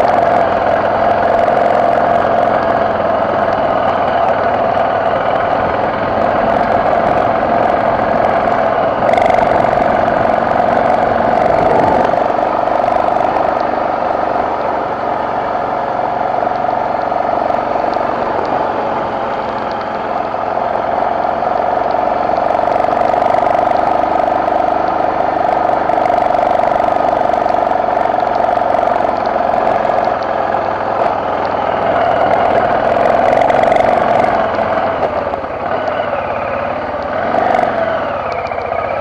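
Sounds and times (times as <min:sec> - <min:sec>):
motorcycle engine under load: 0:00.0 - 0:39.0.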